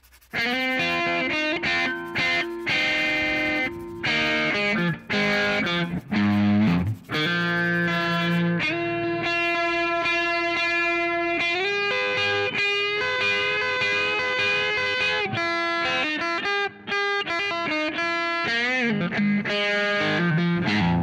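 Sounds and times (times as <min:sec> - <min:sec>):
electric guitar notes: 0:00.6 - 0:21.0.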